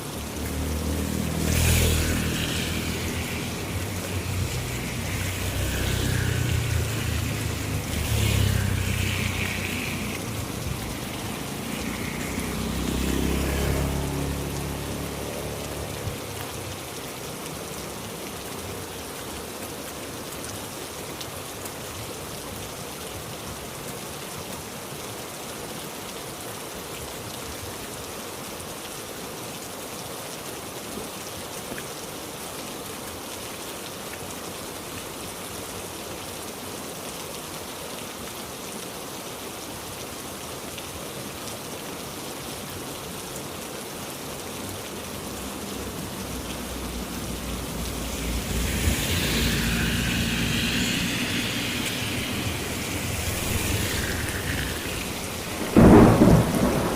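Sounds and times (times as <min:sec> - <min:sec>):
heavy rain hissing: 0:00.0 - 0:25.9, 0:35.1 - 0:56.9.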